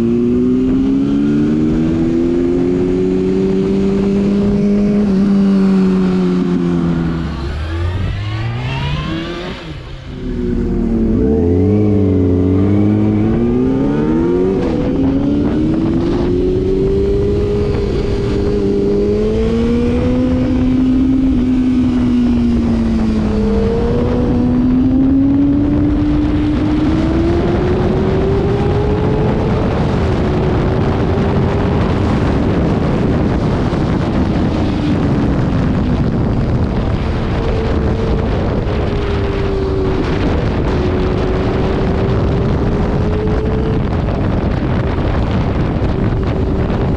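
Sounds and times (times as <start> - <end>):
motorcycle engine accelerating: 0.0 - 46.9
wind noise rush: 0.0 - 46.9.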